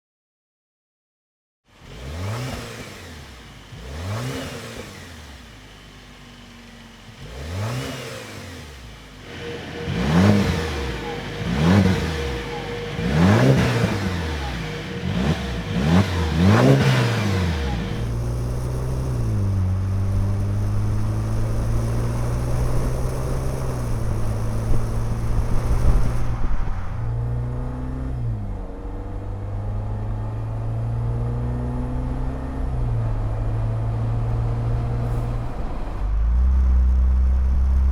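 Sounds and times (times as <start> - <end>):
car engine revving: 1.7 - 37.9
car engine running: 1.7 - 37.9.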